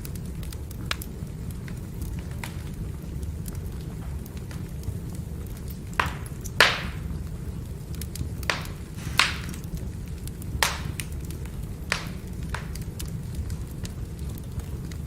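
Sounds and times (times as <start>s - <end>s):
firewood burning and popping: 0.0s - 15.0s.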